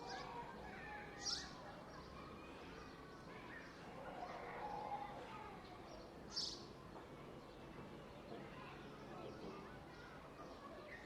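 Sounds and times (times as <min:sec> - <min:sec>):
faint voices of people: 0:00.0 - 0:11.0.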